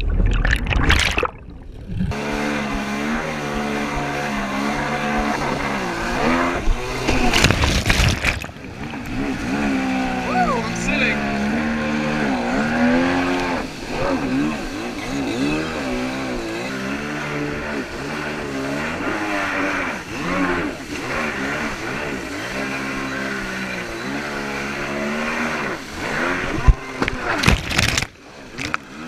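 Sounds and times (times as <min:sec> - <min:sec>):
jet ski engine revving: 0:02.1 - 0:29.0.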